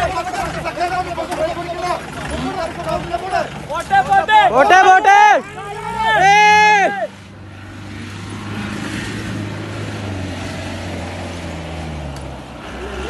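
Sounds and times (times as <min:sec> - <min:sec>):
off-road vehicle engine under load: 0:00.0 - 0:13.0.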